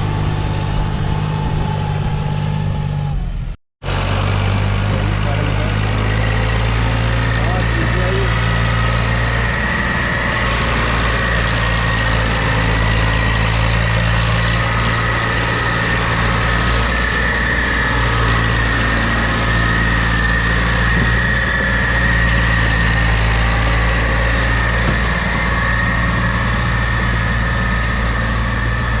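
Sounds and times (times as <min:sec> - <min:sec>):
tractor engine droning: 0:00.0 - 0:29.0.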